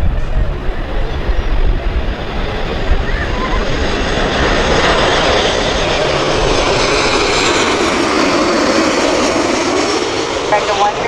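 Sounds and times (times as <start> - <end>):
jet engine noise overhead: 0.0 - 11.0.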